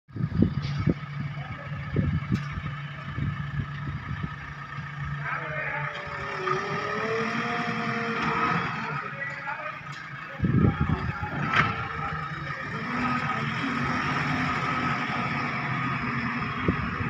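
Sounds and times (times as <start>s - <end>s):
diesel engine humming: 0.1s - 17.0s.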